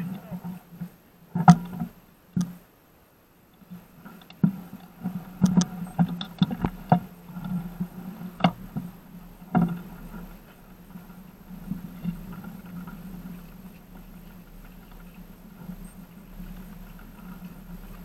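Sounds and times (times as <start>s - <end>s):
bicycles rattling on dirt path: 0.0s - 2.6s, 3.6s - 18.0s.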